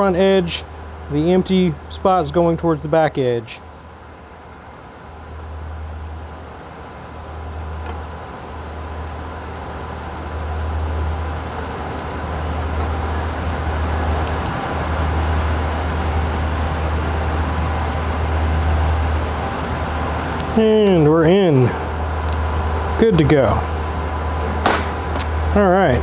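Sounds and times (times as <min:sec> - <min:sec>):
cooling fans roaring: 0:00.0 - 0:26.0.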